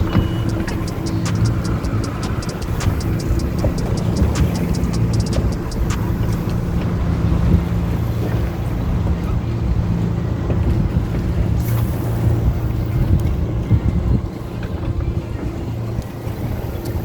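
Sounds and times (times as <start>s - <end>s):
engine humming: 0.0s - 17.0s
wind rumbling on microphone: 0.0s - 17.0s.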